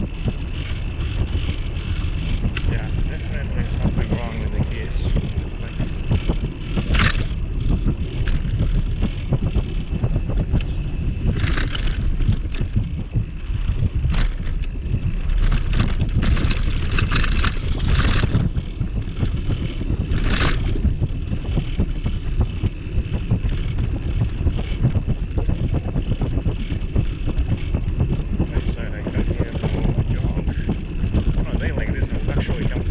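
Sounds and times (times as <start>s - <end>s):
rattling noise: 0.0s - 32.9s
wind buffeting microphone: 0.0s - 32.9s.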